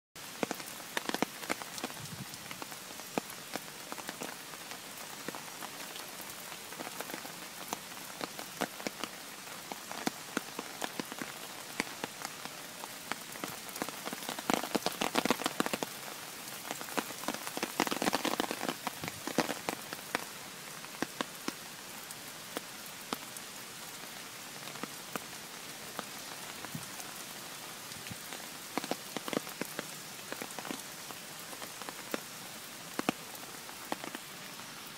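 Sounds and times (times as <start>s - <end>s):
raindrops ticking: 0.2s - 27.3s, 28.0s - 34.4s
heavy rain pouring: 0.2s - 34.9s.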